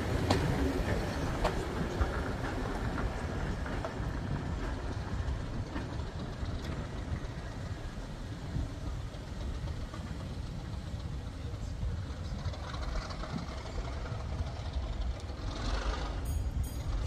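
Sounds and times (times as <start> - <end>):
train rumbling along track: 0.0 - 17.0
wheels clicking over rail joints: 0.0 - 17.0.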